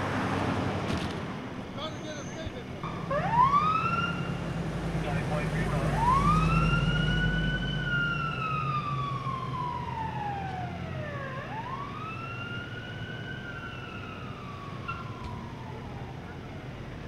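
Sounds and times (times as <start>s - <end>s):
low engine rumble: 0.0s - 17.0s
ambulance siren wailing: 1.8s - 17.0s.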